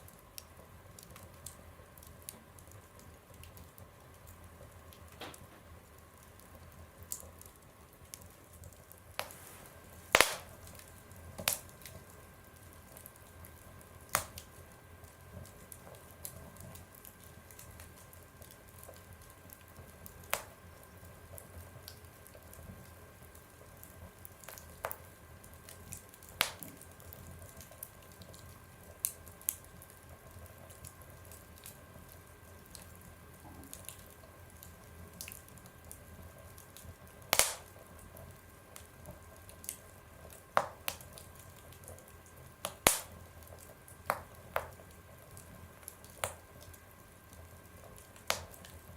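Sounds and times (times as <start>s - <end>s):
faint steady hum: 0.0s - 48.9s
fire crackling in a stove: 0.0s - 48.9s.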